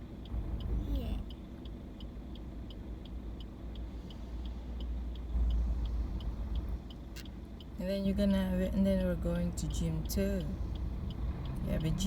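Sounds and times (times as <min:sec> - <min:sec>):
engine and road rumble: 0:00.0 - 0:12.0
turn-signal indicator ticking: 0:00.0 - 0:12.0.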